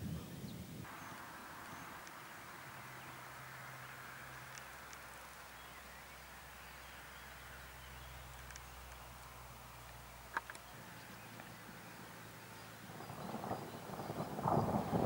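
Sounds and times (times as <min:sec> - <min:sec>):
steady soft hiss: 0:00.0 - 0:15.0.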